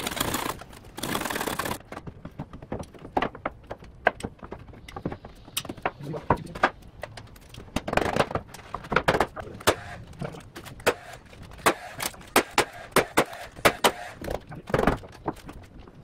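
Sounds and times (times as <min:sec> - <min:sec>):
knocks and clicks on wood: 0:01.7 - 0:16.0.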